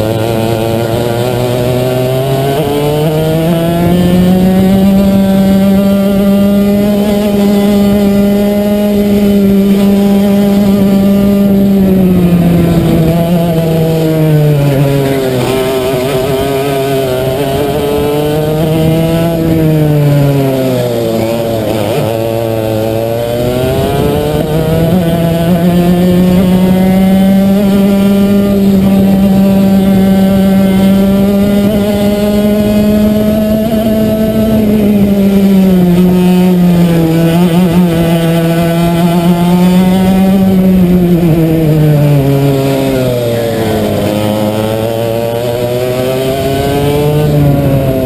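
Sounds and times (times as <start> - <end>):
kart engine revving: 0.0 - 48.0.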